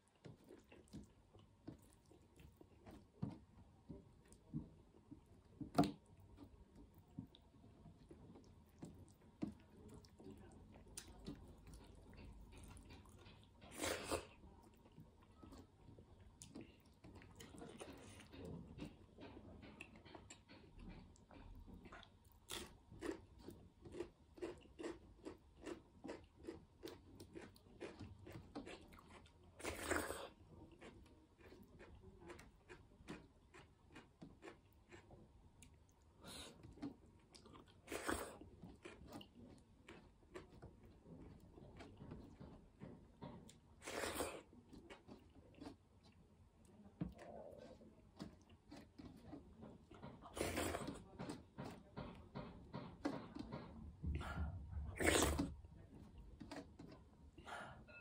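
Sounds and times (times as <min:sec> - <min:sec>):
person chewing food: 0:00.0 - 0:57.8.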